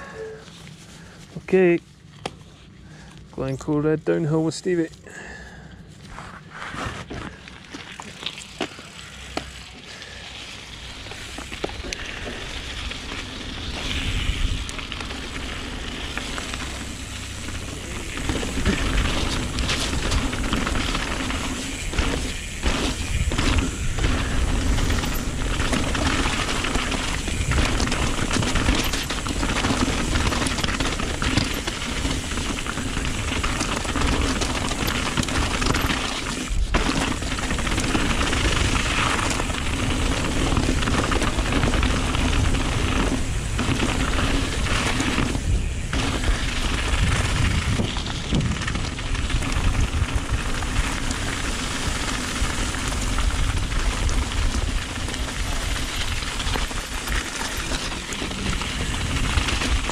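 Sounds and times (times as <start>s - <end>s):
tyres crunching over stones: 4.5s - 59.9s
bike clattering and rattling: 6.1s - 59.9s
wind rumbling on microphone: 10.5s - 59.9s.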